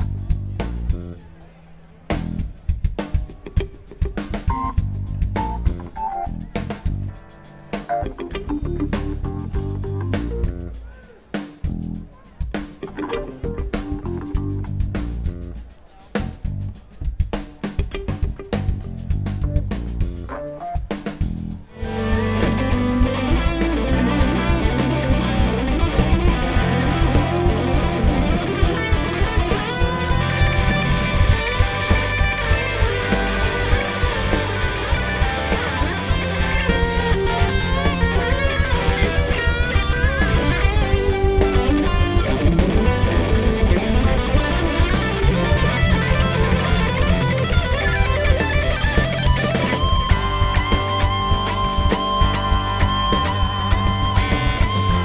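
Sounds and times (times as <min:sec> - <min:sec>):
instrumental rock music: 0:00.0 - 0:55.0.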